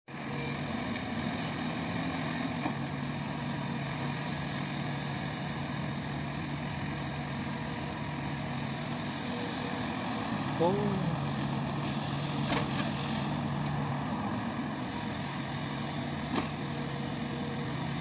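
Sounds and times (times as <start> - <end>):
excavator diesel engine running: 0.1 - 18.0.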